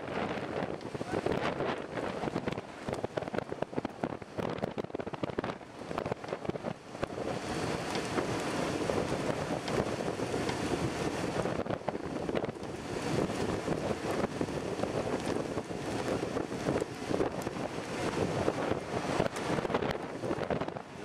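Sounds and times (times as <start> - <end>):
wind gusting across microphone: 0.0 - 21.0.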